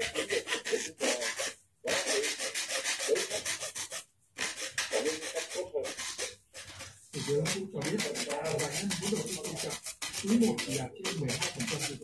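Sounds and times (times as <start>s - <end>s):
hand saw cutting paper filter: 0.0s - 12.0s.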